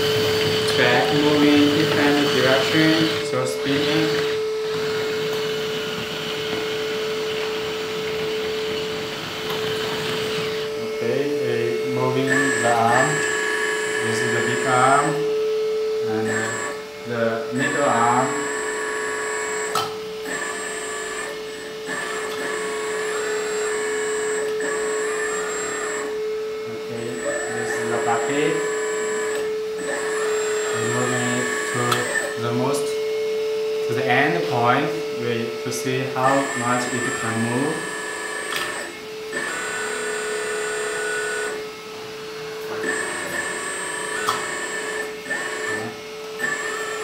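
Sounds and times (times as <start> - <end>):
higher motor whine: 0.0 - 47.0
hydraulic pump whine: 0.0 - 47.0.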